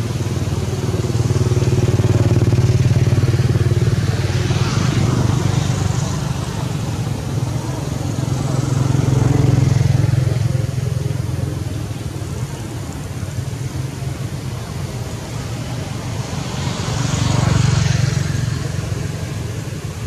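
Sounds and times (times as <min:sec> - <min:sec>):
vehicle passing: 0:00.0 - 0:20.0.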